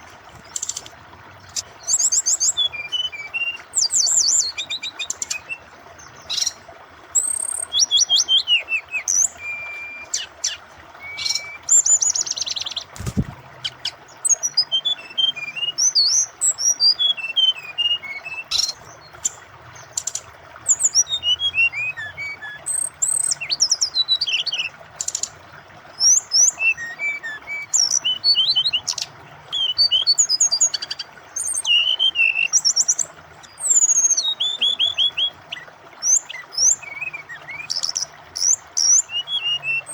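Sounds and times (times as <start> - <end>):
running water: 0.0 - 39.9
bird chirps and trills: 0.3 - 39.9.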